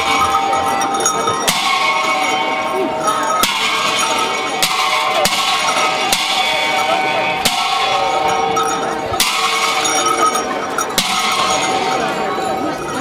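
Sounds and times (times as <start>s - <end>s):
large cymbals clashing: 0.0s - 13.0s.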